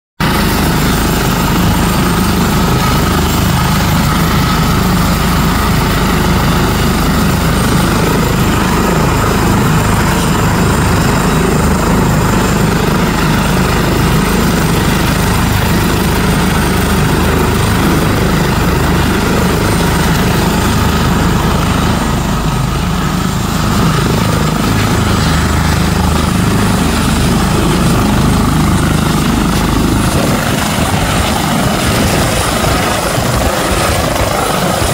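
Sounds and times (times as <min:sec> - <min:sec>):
helicopter rotor beat: 0:00.2 - 0:34.9
high-pitched turbine whine: 0:00.2 - 0:34.9.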